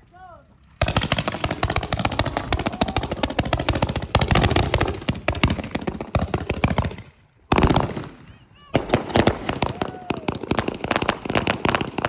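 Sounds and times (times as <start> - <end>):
firecrackers cracking: 0.8 - 12.0.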